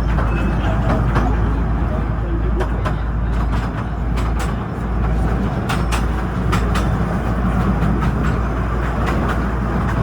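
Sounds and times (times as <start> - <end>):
train rumbling: 0.0 - 10.0
wheels clicking over rail joints: 0.0 - 10.0.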